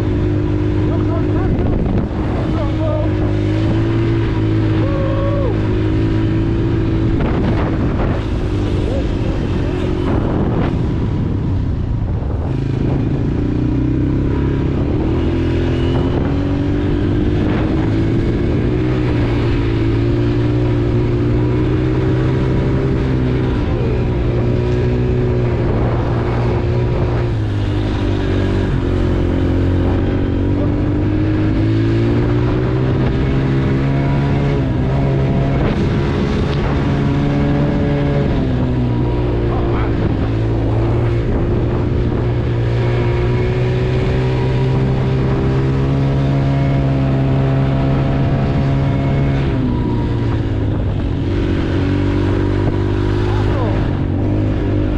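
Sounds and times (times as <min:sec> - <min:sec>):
small engine revving: 0:00.0 - 0:11.0, 0:12.3 - 0:54.9.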